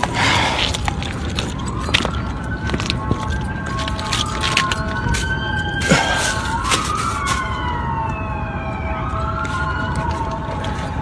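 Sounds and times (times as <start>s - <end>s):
emergency sirens wailing: 0.0s - 11.0s.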